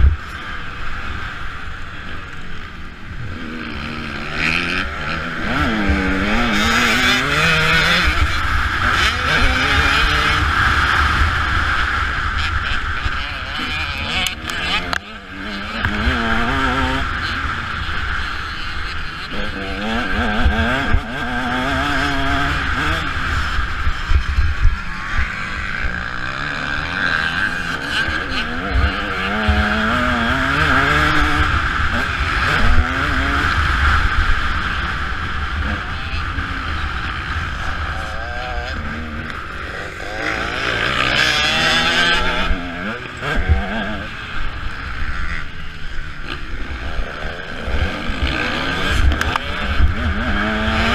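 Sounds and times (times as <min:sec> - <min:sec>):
loud rush of noise: 0:00.0 - 0:50.9
motocross bike engine revving: 0:00.0 - 0:50.9.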